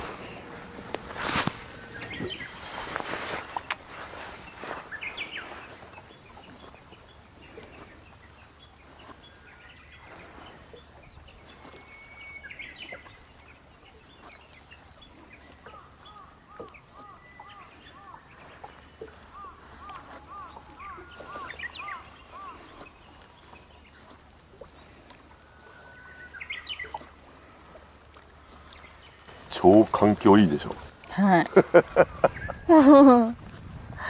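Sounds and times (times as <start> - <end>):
birds singing: 0.0 - 27.8, 28.4 - 31.1, 32.0 - 32.7.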